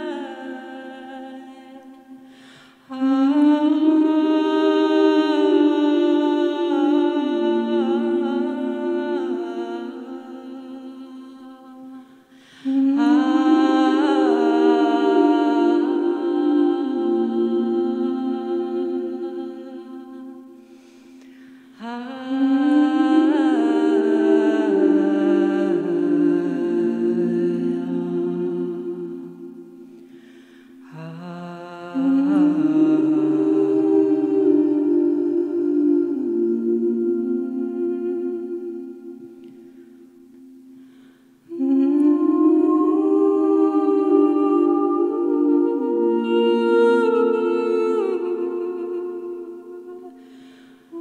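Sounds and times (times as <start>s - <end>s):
woman singing wordless notes: 0.0s - 51.0s.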